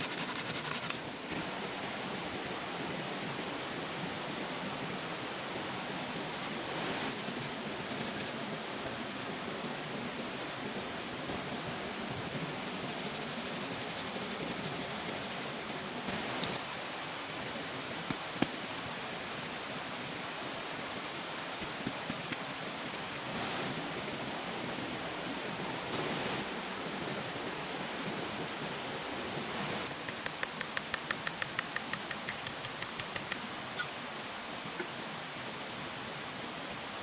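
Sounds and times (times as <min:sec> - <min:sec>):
steady rushing noise: 0:00.0 - 0:31.7.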